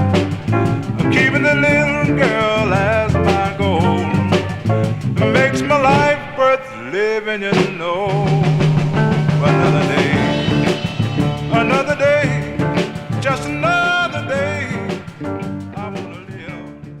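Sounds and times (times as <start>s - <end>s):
song with drums and lead line: 0.0s - 17.0s.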